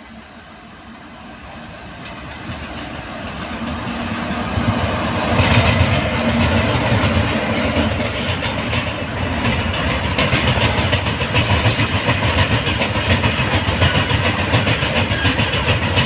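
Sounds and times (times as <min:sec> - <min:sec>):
electric locomotive hum: 0:00.0 - 0:16.0
wheels rumbling and clattering on rails: 0:00.0 - 0:16.0.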